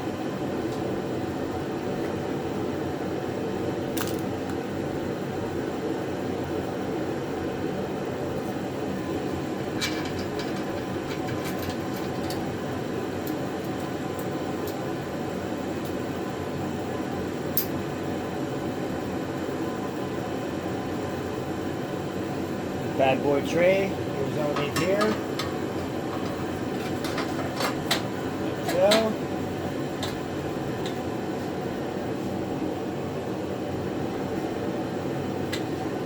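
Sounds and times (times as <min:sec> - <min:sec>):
mechanical fan hum: 0:00.0 - 0:36.0.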